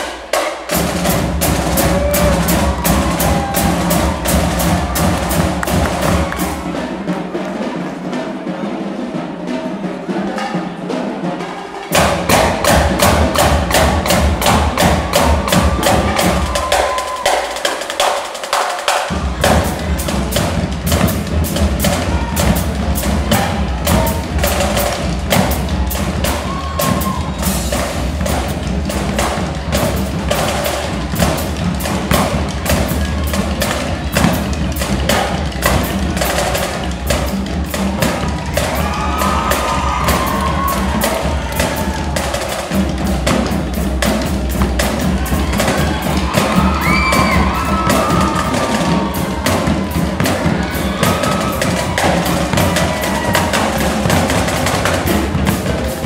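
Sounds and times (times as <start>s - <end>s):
bass drums: 0.0s - 7.4s, 11.9s - 18.3s, 19.0s - 56.0s
marching drumline playing: 0.0s - 56.0s.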